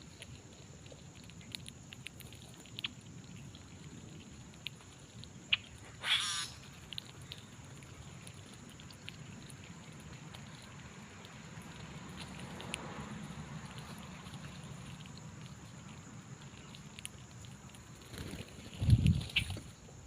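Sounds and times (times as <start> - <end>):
small animal feeding clicks: 0.0 - 19.8.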